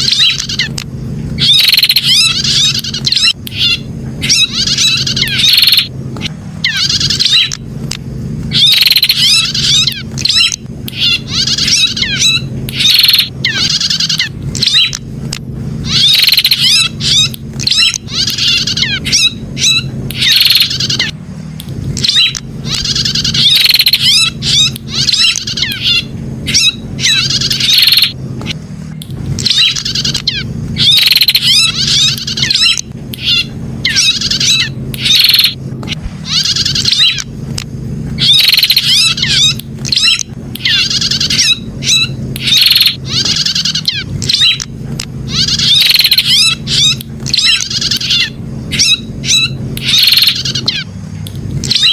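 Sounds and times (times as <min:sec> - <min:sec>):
bird chirps and trills: 0:00.0 - 0:51.9.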